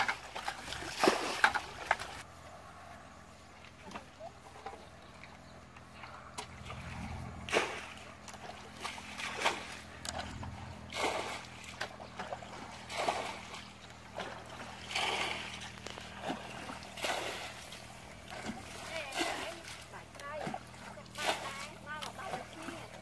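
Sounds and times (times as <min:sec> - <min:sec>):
bucket scooping and splashing water: 0:00.0 - 0:02.2, 0:06.1 - 0:23.0.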